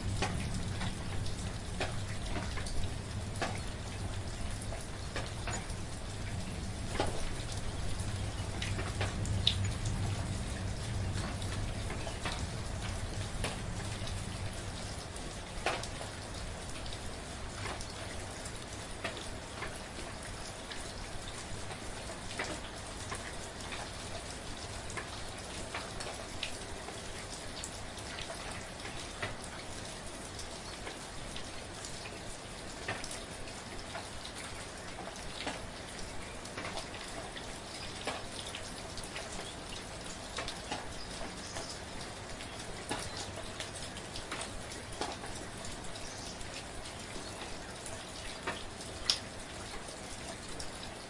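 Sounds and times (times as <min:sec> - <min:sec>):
rain falling: 0:00.0 - 0:51.0
raindrops ticking on a surface: 0:00.0 - 0:51.0.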